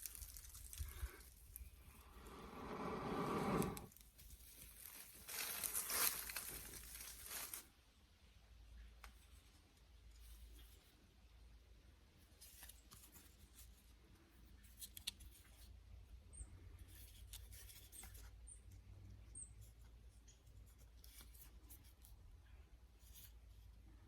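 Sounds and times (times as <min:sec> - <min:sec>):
faint scratching and rustling: 0:00.0 - 0:07.7, 0:08.9 - 0:11.1, 0:12.1 - 0:24.0.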